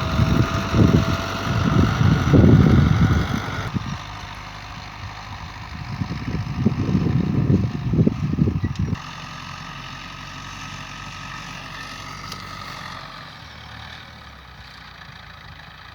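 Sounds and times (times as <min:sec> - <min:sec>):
engine rough low rumble: 0:00.0 - 0:15.9
steady engine hum: 0:00.0 - 0:15.9.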